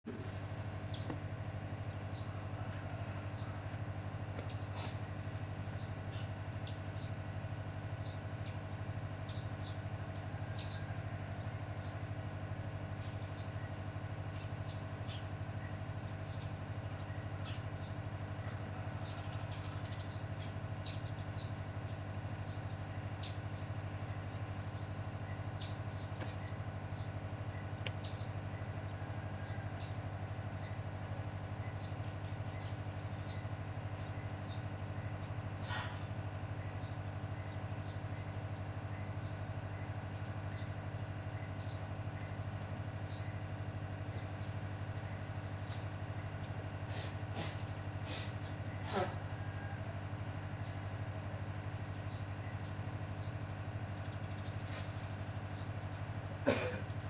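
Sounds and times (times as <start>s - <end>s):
steady low hum: 0.0s - 57.0s
small birds chirping: 0.1s - 7.3s, 7.9s - 12.0s, 12.9s - 49.7s, 50.6s - 50.9s, 51.8s - 57.0s.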